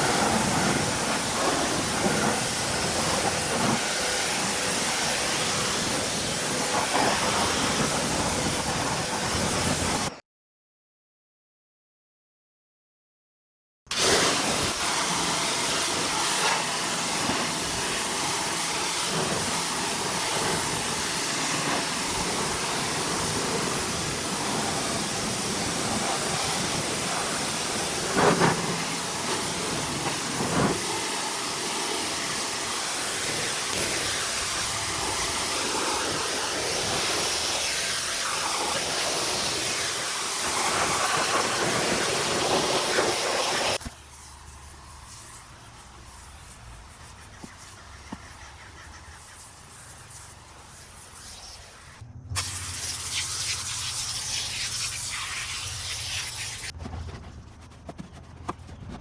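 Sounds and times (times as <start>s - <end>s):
pressure washer water spray hissing: 0.0s - 10.1s, 13.9s - 56.8s.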